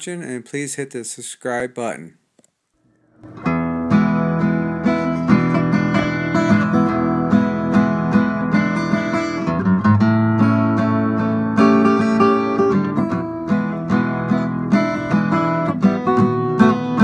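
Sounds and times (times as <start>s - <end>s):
acoustic guitar strumming chords: 3.2s - 17.0s.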